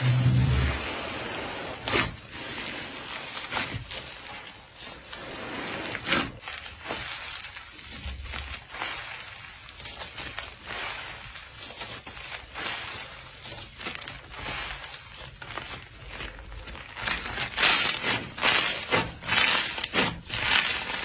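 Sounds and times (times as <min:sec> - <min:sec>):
slime squelching: 0:00.0 - 0:21.0.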